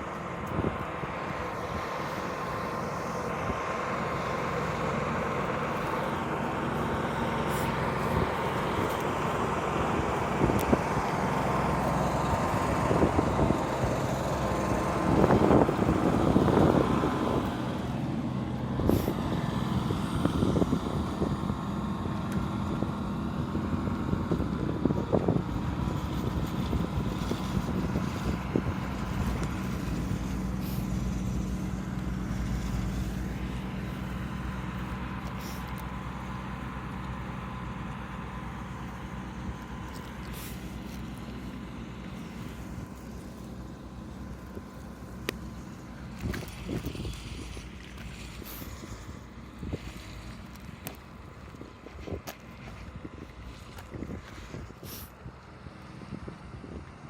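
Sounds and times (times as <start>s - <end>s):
motor traffic: 0.0s - 57.0s.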